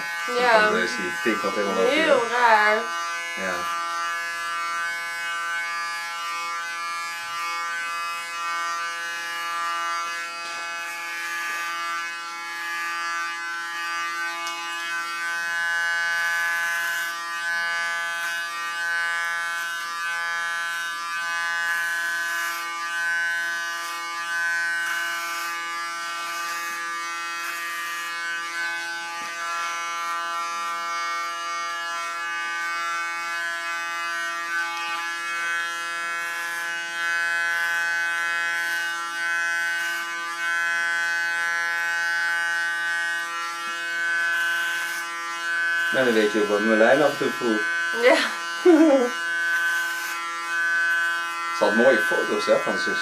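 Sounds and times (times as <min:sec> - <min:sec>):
electric hair clipper buzzing: 0:00.0 - 0:53.0.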